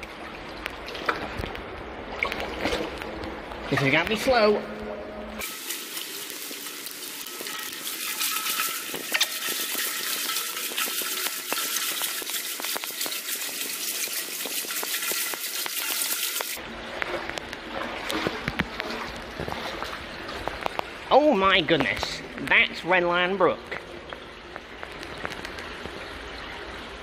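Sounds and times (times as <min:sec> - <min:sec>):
wading through mud and water: 0:00.0 - 0:04.8, 0:05.4 - 0:23.0.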